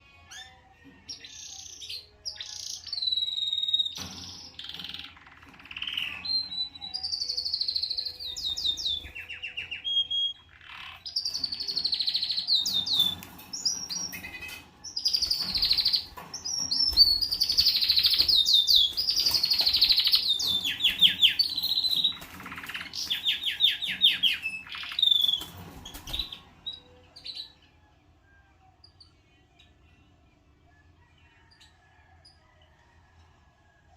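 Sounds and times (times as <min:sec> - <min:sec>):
canary singing trills: 0:00.1 - 0:27.8.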